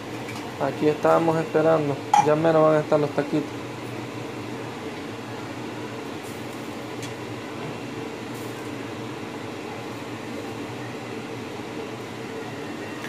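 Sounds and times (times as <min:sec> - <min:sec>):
electric fan whirring: 0:00.0 - 0:13.0.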